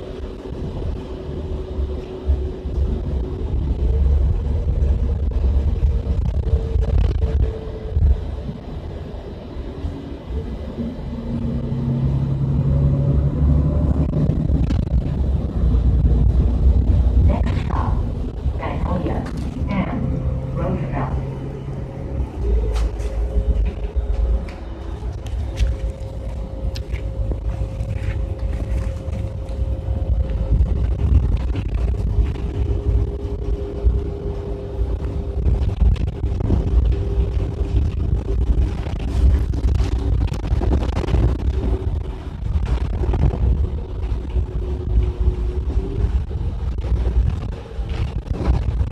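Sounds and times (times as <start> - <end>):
bus engine and road rumble: 0.0 - 48.9
faint hum: 0.0 - 48.9.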